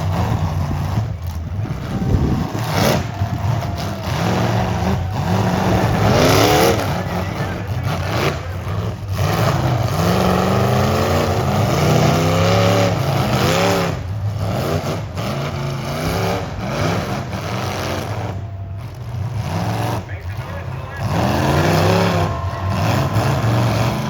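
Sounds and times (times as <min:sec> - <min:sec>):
car engines revving hard: 0:00.0 - 0:24.0
low rumble of cars running: 0:00.0 - 0:24.0.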